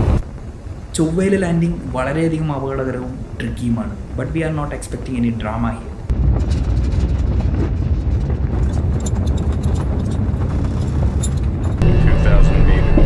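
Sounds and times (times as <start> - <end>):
light crackle: 0.0 - 11.8
rumble of descent engines: 0.0 - 13.0.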